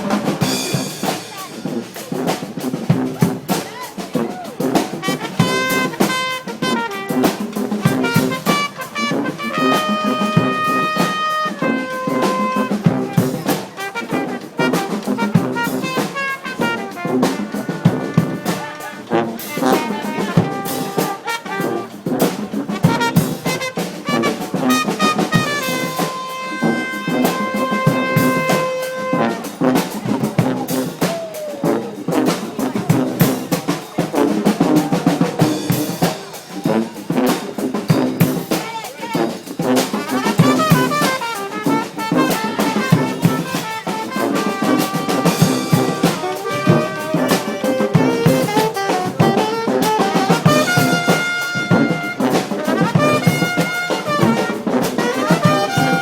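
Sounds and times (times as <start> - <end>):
brass marching band playing: 0.0 - 56.0.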